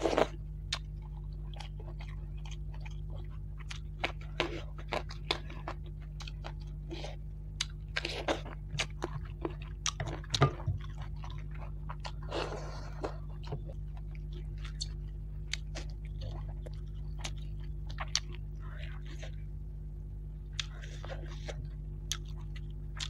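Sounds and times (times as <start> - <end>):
chewing food: 0.0 - 19.6, 20.4 - 23.0
steady low hum: 0.0 - 23.0.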